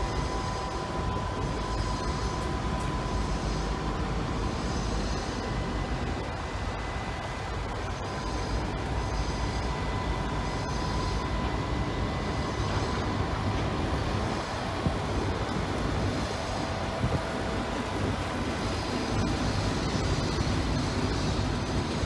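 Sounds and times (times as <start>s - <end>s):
faint steady whine: 0.0s - 22.0s.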